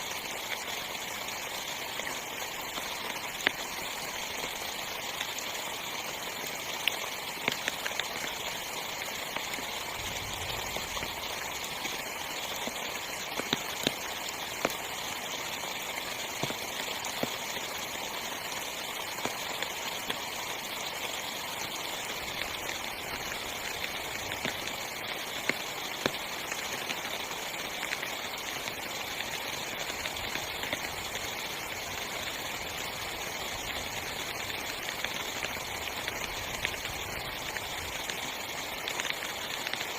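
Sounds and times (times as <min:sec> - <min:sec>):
heavy rain on tent fabric: 0:00.0 - 0:39.9.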